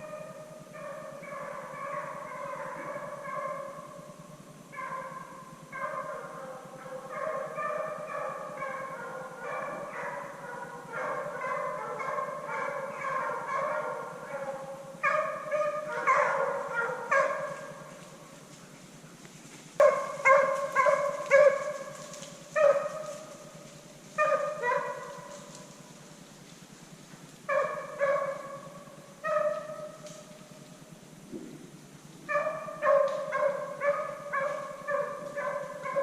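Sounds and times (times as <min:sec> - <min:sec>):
hunting dogs baying: 0:00.0 - 0:19.2, 0:19.8 - 0:26.8, 0:27.4 - 0:31.2, 0:32.2 - 0:36.0.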